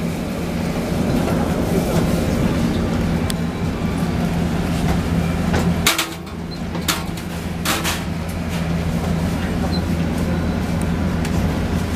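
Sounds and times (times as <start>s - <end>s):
electric train low hum: 0.0s - 11.9s.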